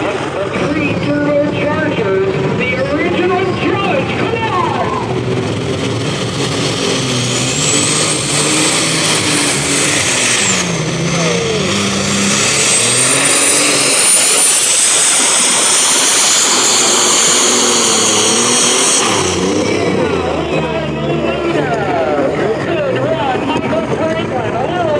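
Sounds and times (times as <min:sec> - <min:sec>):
tractor engine under full load: 0:00.0 - 0:24.9.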